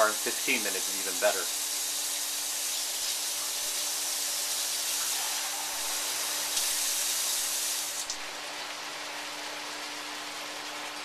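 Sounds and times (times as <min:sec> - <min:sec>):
sauce sizzling and bubbling in wok: 0:00.0 - 0:11.0.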